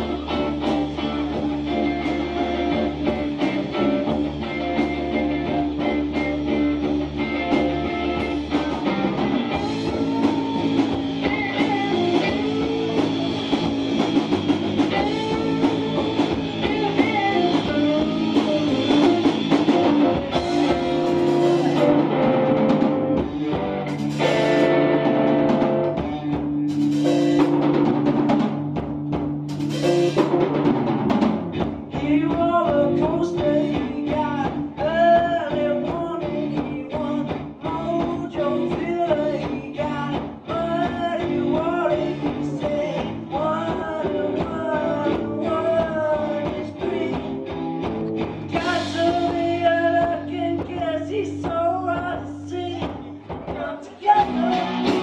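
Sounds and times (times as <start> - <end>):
bass guitar: 0.0 - 55.0
drum kit: 0.0 - 55.0
electric guitars: 0.0 - 55.0
person singing: 4.6 - 27.5, 31.9 - 47.7, 48.5 - 55.0.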